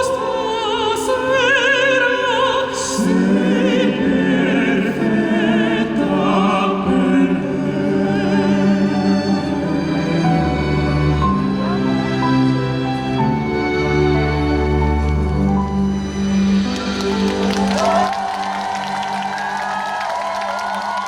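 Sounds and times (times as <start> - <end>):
operatic singing: 0.0 - 21.0
orchestra playing: 0.0 - 21.0.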